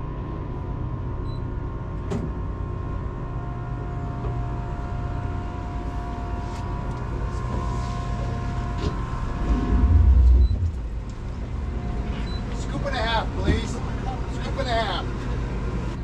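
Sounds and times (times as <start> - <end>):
faint steady whine: 0.0 - 16.0
boat engine droning: 2.4 - 16.0.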